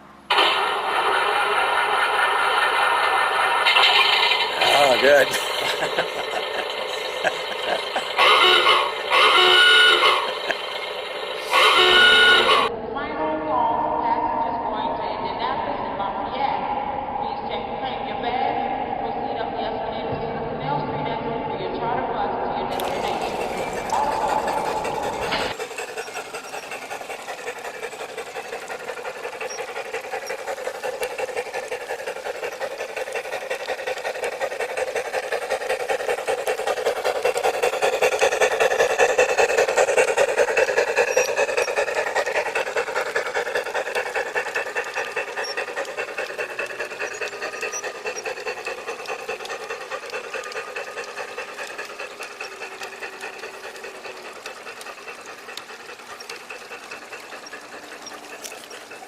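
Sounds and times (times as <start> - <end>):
model train clattering on track: 0.0 - 12.7, 22.7 - 59.0.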